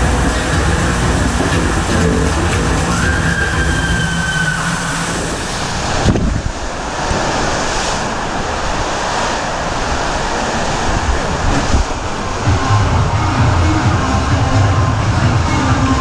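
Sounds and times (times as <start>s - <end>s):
water rushing: 0.0s - 16.0s
wind noise on microphone: 0.0s - 16.0s.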